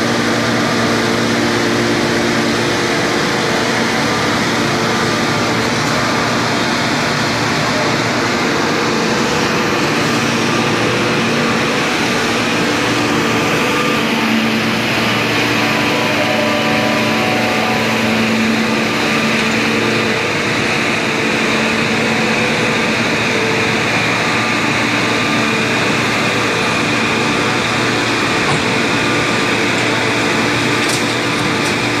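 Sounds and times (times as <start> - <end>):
forging furnace firing drone: 0.0 - 32.0.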